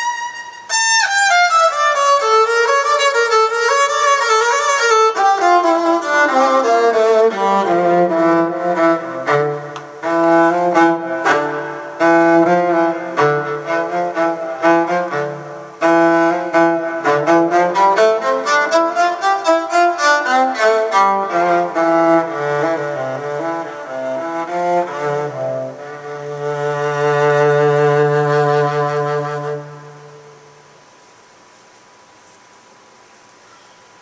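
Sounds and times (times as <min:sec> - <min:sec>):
electric violin played with bow: 0:00.0 - 0:30.6.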